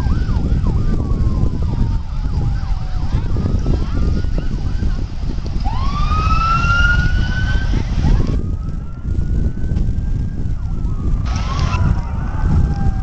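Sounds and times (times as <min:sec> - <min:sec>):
emergency sirens wailing: 0:00.0 - 0:13.0
wind rumble on microphone: 0:00.0 - 0:13.0.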